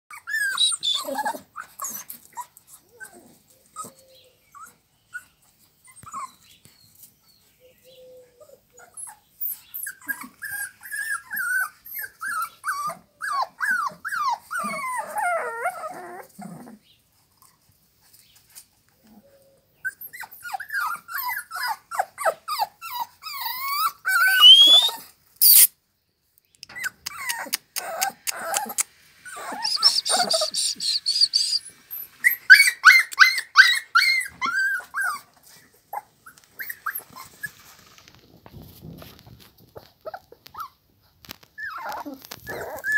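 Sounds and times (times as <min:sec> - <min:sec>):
puppies whimpering and yipping: 0:00.1 - 0:16.8, 0:19.0 - 0:25.7, 0:26.7 - 0:38.1, 0:39.7 - 0:42.9.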